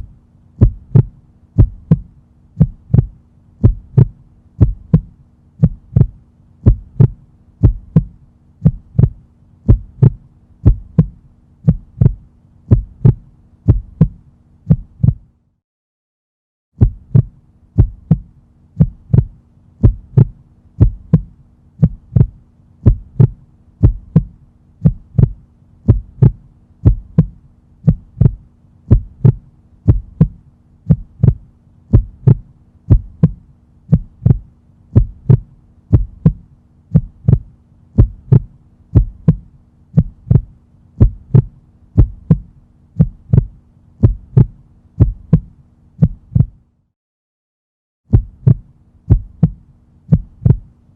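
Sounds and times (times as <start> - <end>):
heartbeat thumps: 0.0 - 15.3, 16.8 - 46.6, 48.1 - 50.7
faint steady hum: 0.0 - 15.6, 16.8 - 46.9, 48.1 - 50.9.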